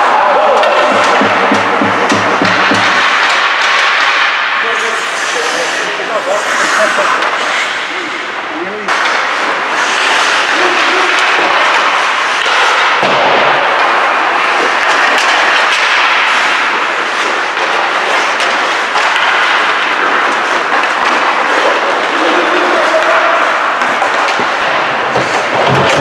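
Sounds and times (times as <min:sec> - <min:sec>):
rink rushing noise: 0:00.0 - 0:26.0
skates scraping ice: 0:00.0 - 0:26.0
sticks and puck clicking: 0:00.1 - 0:04.5, 0:08.9 - 0:26.0.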